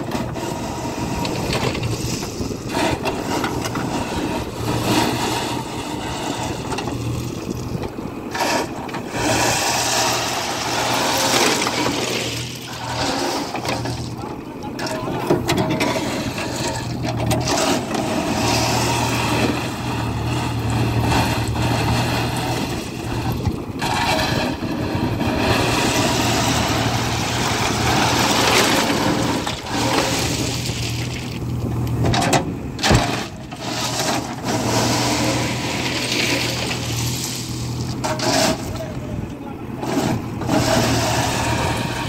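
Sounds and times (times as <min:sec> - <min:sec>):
diesel engine under load: 0:00.0 - 0:42.0
gravel rattling into truck bed: 0:01.1 - 0:42.0.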